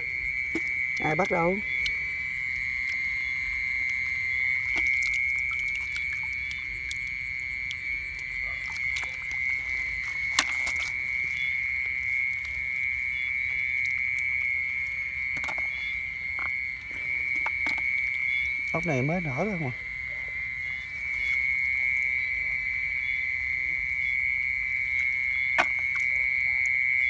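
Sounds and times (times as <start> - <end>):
small water splashes: 0.0 - 22.4, 24.8 - 27.0
high-pitched night animal chorus: 0.0 - 27.0.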